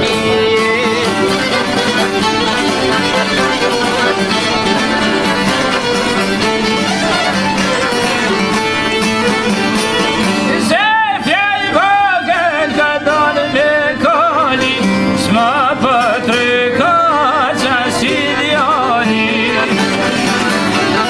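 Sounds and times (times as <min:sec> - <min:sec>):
folk band playing: 0:00.0 - 0:21.0.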